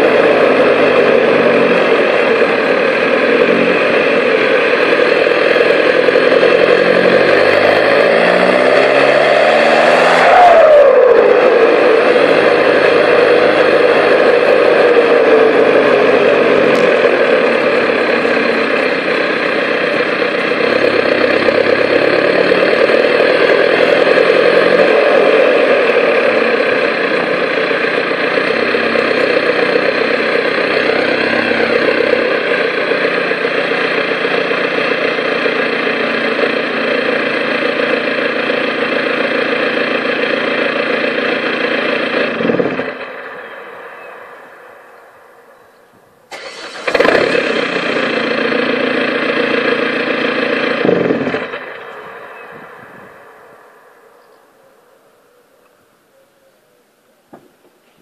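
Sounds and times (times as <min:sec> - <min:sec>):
diesel engine through straight exhaust: 0:00.0 - 0:57.4.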